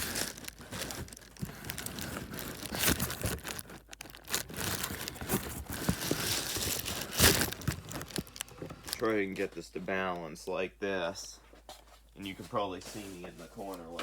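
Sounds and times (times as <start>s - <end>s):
crinkly rustling and scraping: 0.0s - 10.4s, 11.2s - 14.0s.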